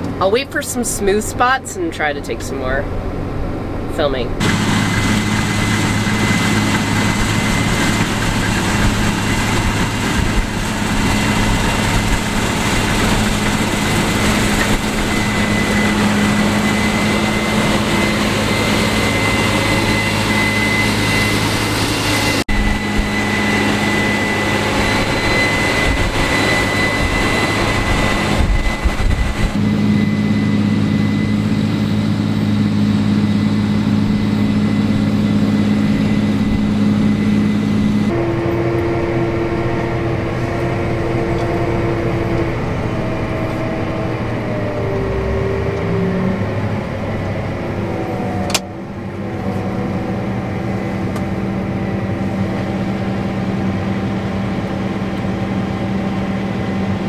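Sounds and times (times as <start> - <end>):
thin high whine: 0.0 - 56.8
heavy diesel drone: 0.0 - 57.0.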